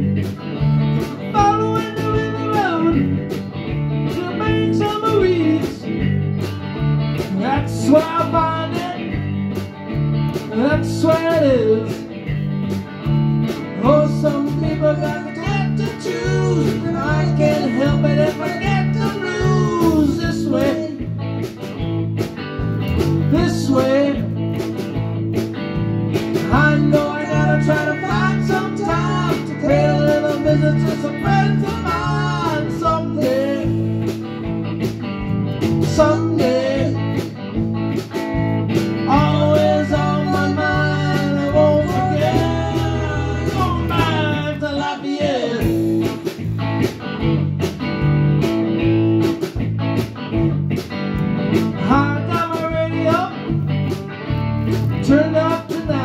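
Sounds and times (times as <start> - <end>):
sliding lead notes: 0.0 - 55.5
bass guitar line: 0.0 - 56.0.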